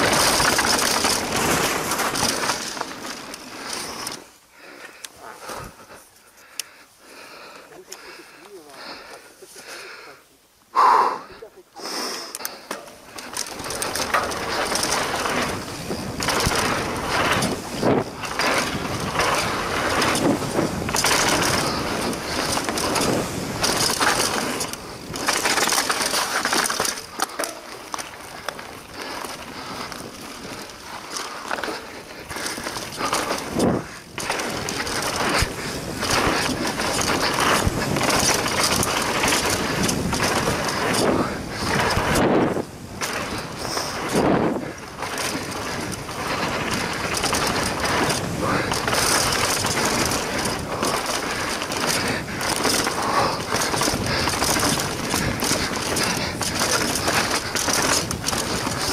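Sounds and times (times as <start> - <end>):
bike tyres crunching over gravel: 0.0 - 10.4, 12.2 - 58.9.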